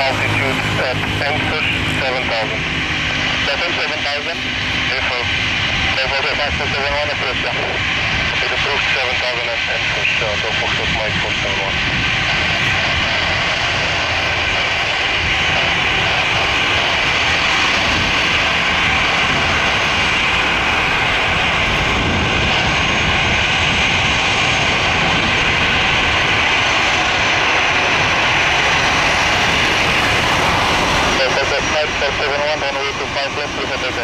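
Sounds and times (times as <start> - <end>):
jet engines whining at taxi power: 0.0 - 34.0.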